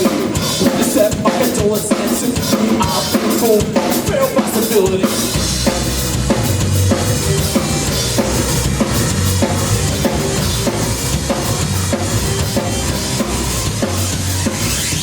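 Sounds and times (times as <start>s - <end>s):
bass guitar: 0.0s - 15.0s
drum kit beat with cymbals: 0.0s - 15.0s.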